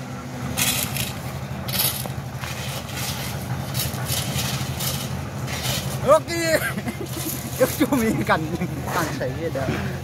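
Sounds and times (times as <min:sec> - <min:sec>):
engine running: 0:00.0 - 0:10.0
shovels scraping gravel: 0:00.5 - 0:09.2.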